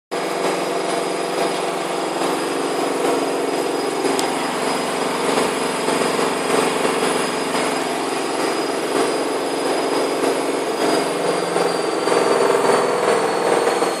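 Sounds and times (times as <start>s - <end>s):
washing machine running: 0.1s - 14.0s.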